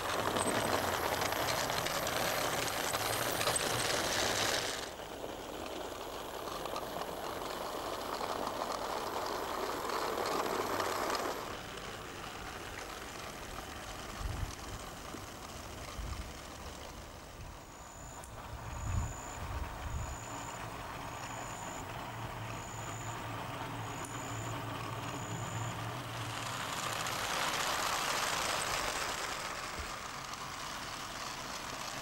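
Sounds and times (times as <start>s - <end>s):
train wheels clattering on rail: 0.0s - 32.0s.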